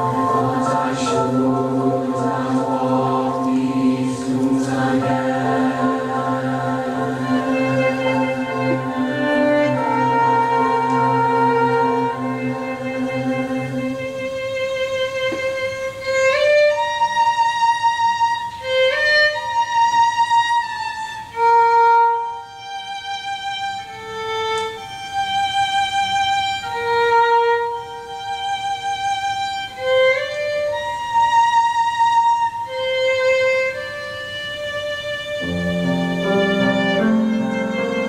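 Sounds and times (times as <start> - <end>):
slow melody of long held notes: 0.0 - 38.0.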